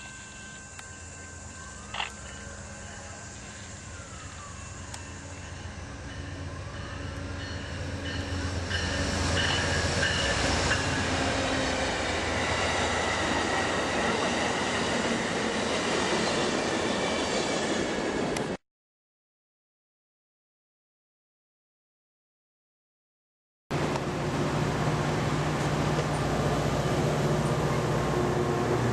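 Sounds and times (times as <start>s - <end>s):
train passing on tracks: 0.0s - 18.6s, 23.7s - 28.9s.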